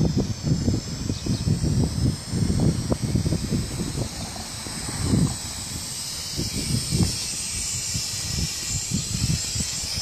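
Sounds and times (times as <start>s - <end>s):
drone propellers hissing: 0.0s - 10.0s
wind buffeting microphone: 0.0s - 10.0s.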